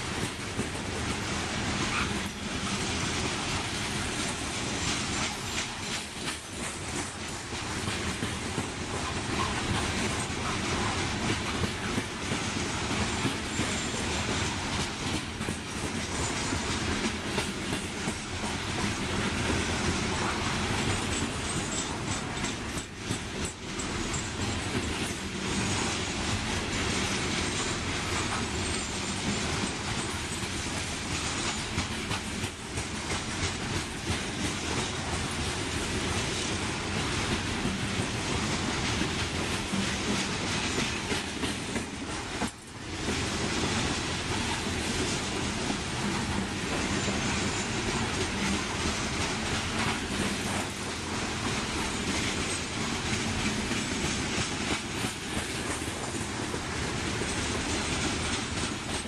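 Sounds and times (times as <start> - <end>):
freight train rumbling and rattling: 0.0 - 59.0.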